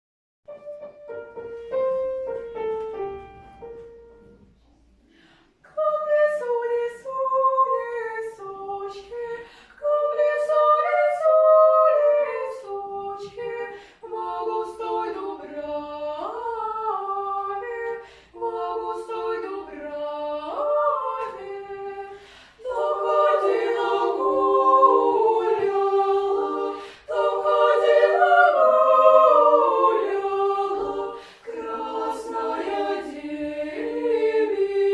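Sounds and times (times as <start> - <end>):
children's choir singing unaccompanied: 5.6 - 34.9.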